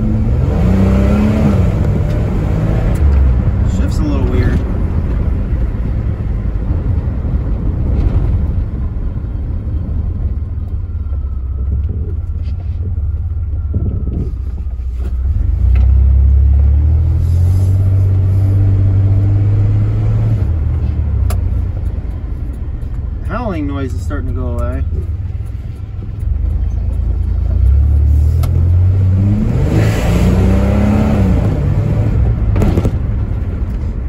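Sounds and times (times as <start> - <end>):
pickup engine rumble: 0.0 - 34.0
road noise: 0.0 - 34.0.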